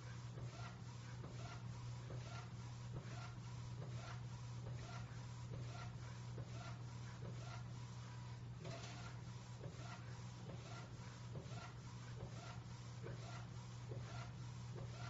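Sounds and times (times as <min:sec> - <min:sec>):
inkjet printer humming and whirring: 0:00.0 - 0:15.0.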